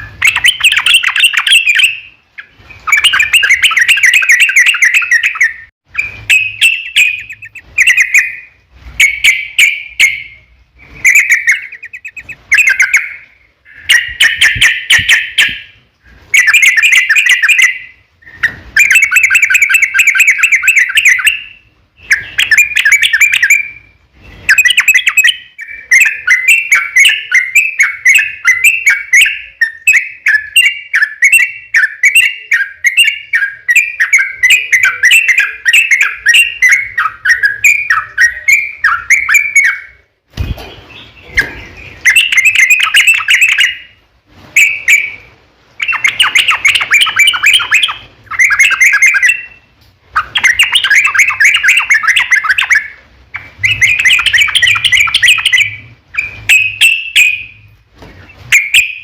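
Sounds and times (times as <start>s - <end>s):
bird singing chattering notes: 0.0s - 15.8s, 16.4s - 23.8s, 24.5s - 44.0s, 44.6s - 57.6s.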